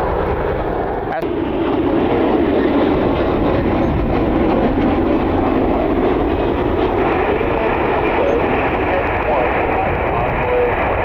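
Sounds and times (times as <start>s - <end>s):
jet engines roaring: 0.0s - 11.0s
wind buffeting microphone: 0.0s - 11.0s.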